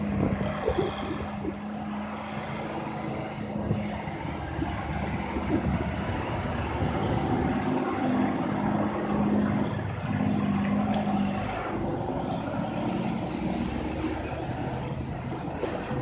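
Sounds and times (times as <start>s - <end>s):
truck diesel engine droning: 0.0s - 16.0s.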